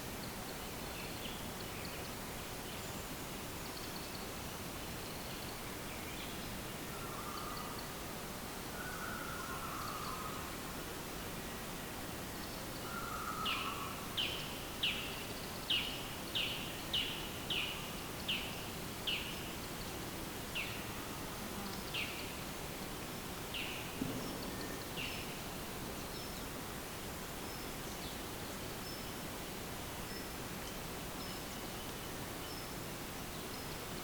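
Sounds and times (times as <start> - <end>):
steady background hiss: 0.0 - 34.0.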